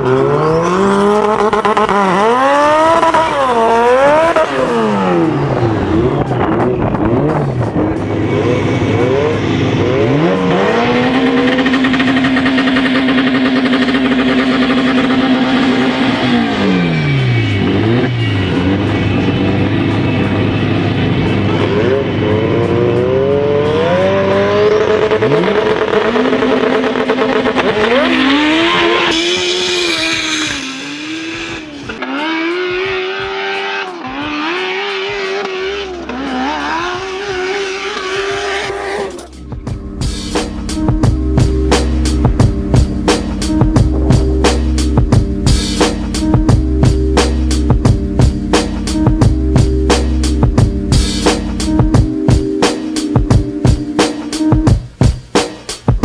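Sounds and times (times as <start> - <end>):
car engines revving hard: 0.0 - 54.6.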